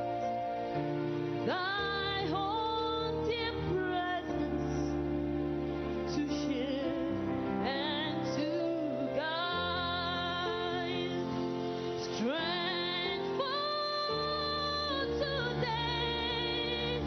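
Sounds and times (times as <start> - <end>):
slow gospel music: 0.0 - 17.0.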